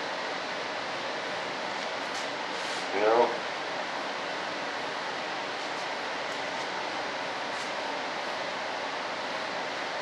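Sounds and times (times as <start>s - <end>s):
steady workshop hiss: 0.0s - 10.0s.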